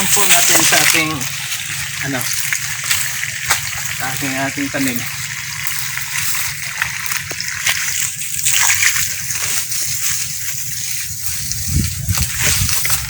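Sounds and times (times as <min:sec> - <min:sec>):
garden hose water spraying: 0:00.0 - 0:13.0
low rumble: 0:00.0 - 0:13.0.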